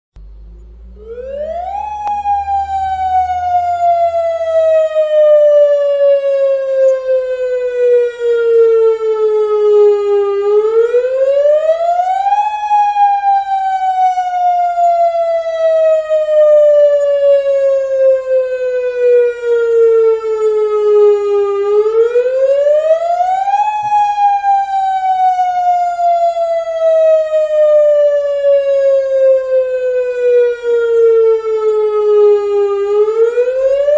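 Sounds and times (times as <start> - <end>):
warning siren wailing: 0.2 - 33.9.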